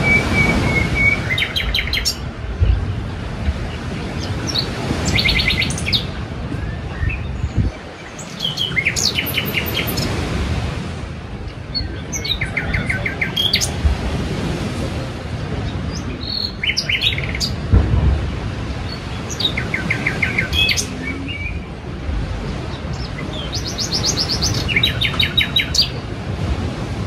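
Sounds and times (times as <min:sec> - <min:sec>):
songbirds trilling: 0:00.0 - 0:10.5, 0:11.3 - 0:14.7, 0:15.3 - 0:27.0
surf: 0:00.0 - 0:27.0
wind: 0:00.0 - 0:27.0.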